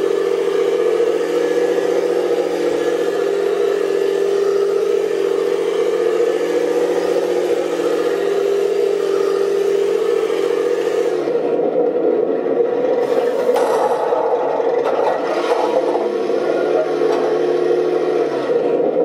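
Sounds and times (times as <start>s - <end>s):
remote-control tank mechanical drone: 0.0s - 19.0s.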